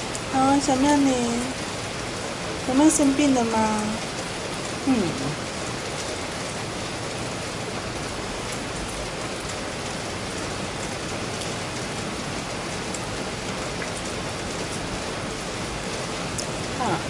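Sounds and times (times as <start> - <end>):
rain on stone paving: 0.0 - 17.0.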